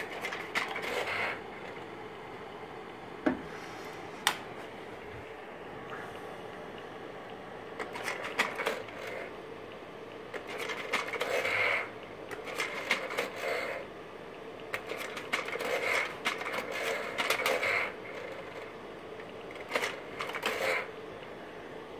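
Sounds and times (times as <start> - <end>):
slide projector clicking and whirring: 0.0 - 3.0, 4.2 - 4.6, 6.5 - 21.5
projector humming: 0.0 - 21.9.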